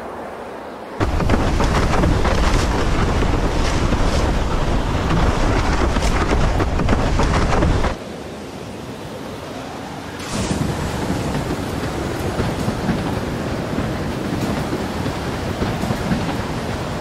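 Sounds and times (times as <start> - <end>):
surf noise: 0.0 - 17.0
wind buffeting microphone: 0.8 - 8.0, 8.6 - 17.0
rushing water: 1.0 - 17.0.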